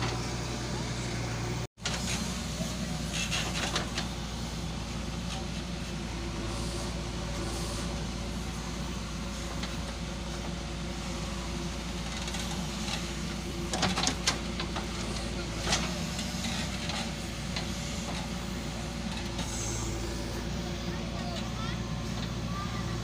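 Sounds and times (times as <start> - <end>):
diesel engine running steadily: 0.0 - 23.0.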